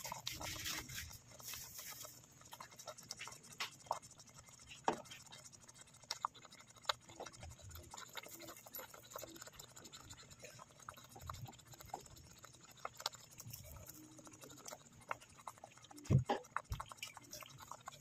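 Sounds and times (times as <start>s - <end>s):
granules sprinkling faint ticks: 0.0s - 18.0s.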